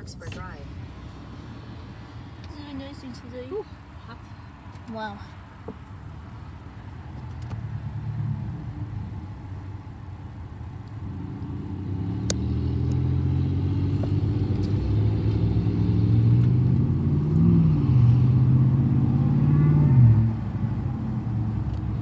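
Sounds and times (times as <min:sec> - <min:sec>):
car engine hum: 0:00.0 - 0:22.0
road noise: 0:00.0 - 0:22.0.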